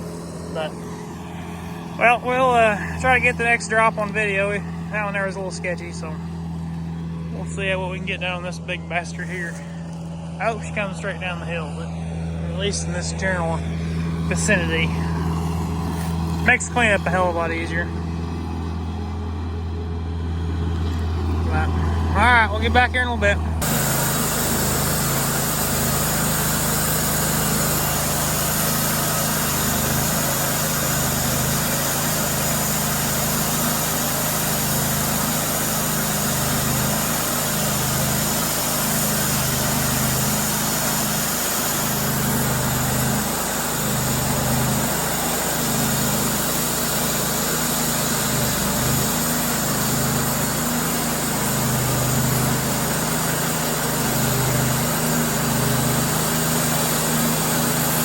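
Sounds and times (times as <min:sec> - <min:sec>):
small engine running steadily: 0:00.0 - 0:58.0.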